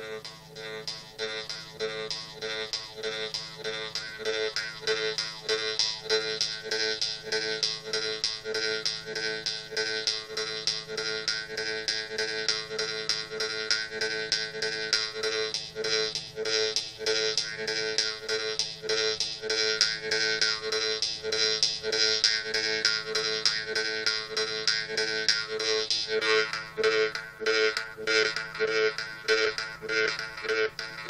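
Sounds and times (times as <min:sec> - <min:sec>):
jew's harp twanging: 0:00.0 - 0:31.0.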